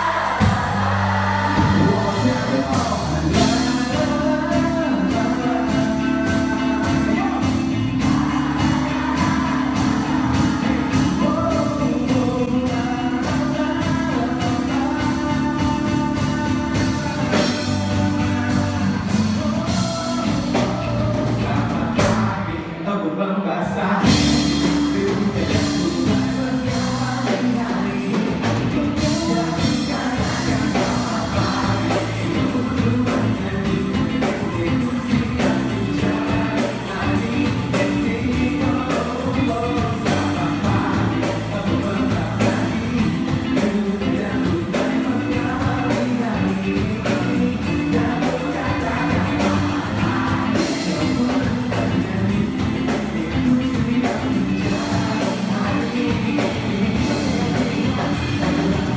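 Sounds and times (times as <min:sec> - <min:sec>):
pop-rock band playing: 0:00.0 - 0:22.8, 0:23.8 - 0:58.9
person singing: 0:00.0 - 0:58.9.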